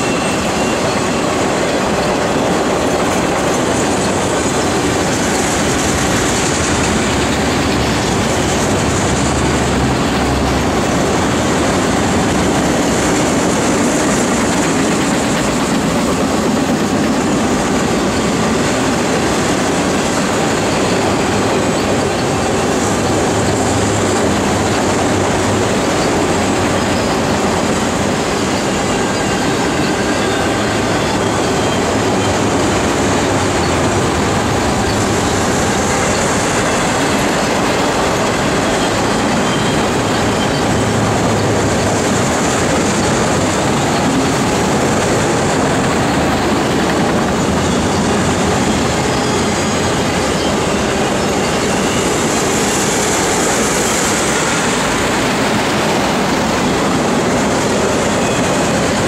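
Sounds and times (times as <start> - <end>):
clickety-clack of rail joints: 0.0 - 59.0
steel wheels on rails: 0.0 - 59.0.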